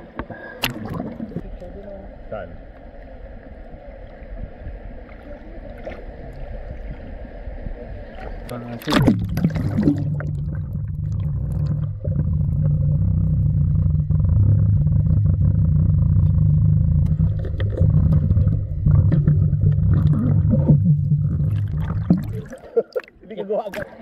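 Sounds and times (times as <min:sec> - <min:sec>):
muffled underwater rumble: 0:00.0 - 0:23.2
water bubbling: 0:00.0 - 0:24.0.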